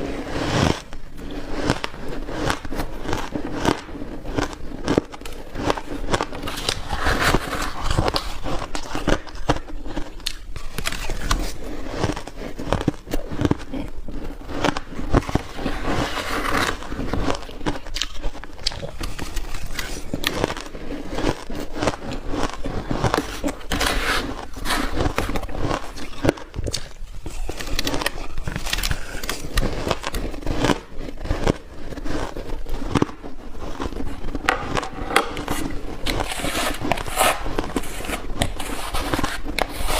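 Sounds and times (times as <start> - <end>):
crunching ice being chewed: 0.0 - 39.9.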